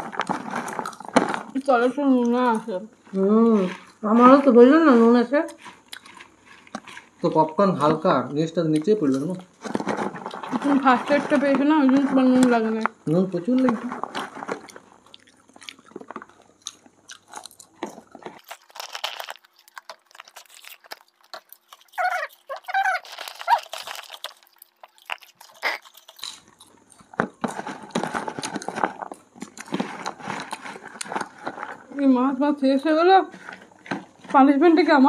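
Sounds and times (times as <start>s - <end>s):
people crunching popcorn: 0.0s - 35.0s.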